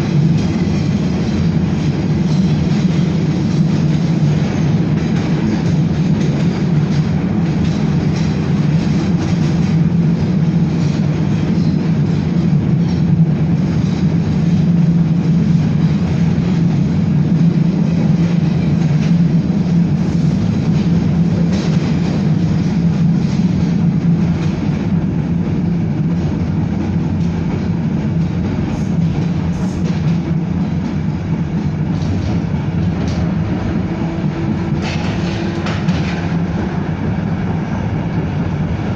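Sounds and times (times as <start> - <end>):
tram wheels rumbling on rails: 0.0 - 38.9.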